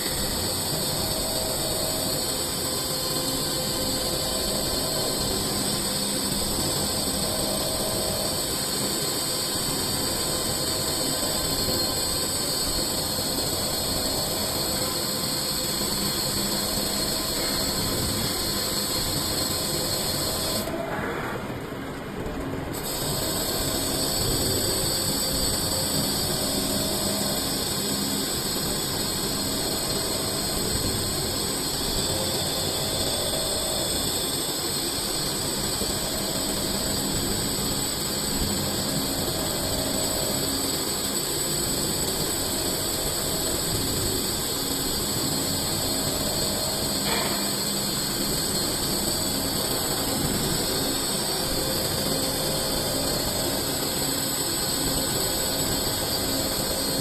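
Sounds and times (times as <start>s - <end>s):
lathe cutting metal: 0.0s - 20.7s, 22.8s - 57.0s
faint machine pulse: 0.0s - 57.0s.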